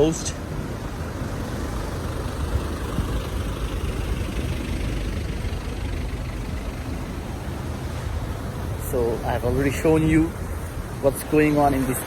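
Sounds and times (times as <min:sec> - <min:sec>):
engines idling: 0:00.0 - 0:12.0.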